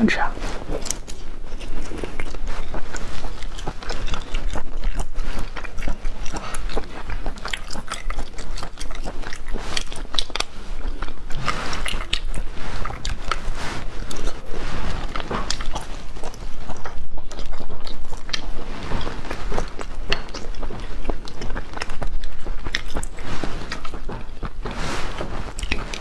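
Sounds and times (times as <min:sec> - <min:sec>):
wet chewing: 0:00.4 - 0:26.0.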